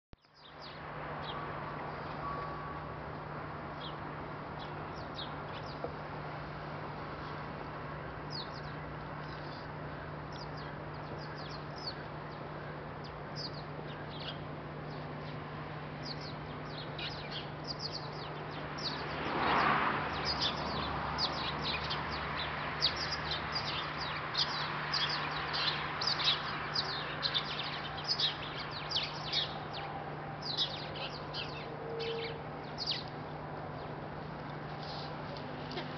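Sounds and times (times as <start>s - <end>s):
songbirds chirping: 0.2s - 35.9s.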